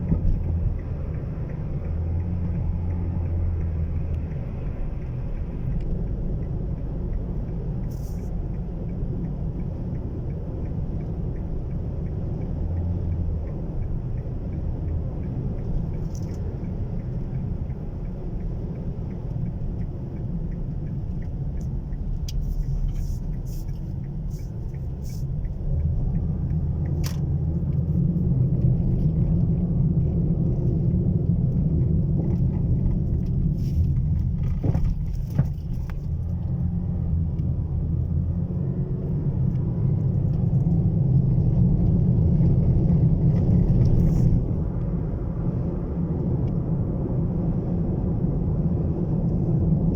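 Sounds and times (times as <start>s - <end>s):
car rumbling on the move: 0.0s - 49.9s.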